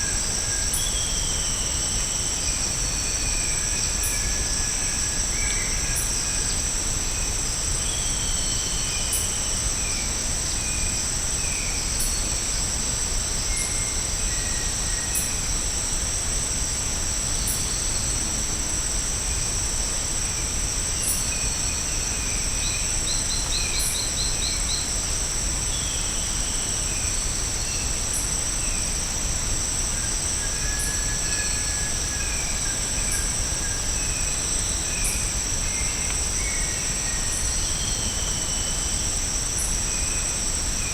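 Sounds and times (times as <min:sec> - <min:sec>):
insects droning high-pitched: 0:00.0 - 0:40.9.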